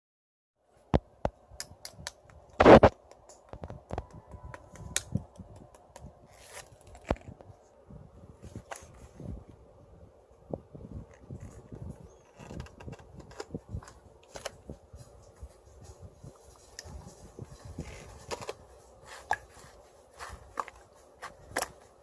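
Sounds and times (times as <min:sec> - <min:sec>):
faint steady hum: 0:00.6 - 0:22.0.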